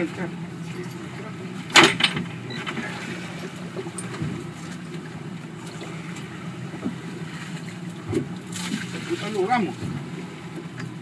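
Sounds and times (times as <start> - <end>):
boat engine idling: 0.0 - 11.0
water washing against hull: 0.0 - 11.0.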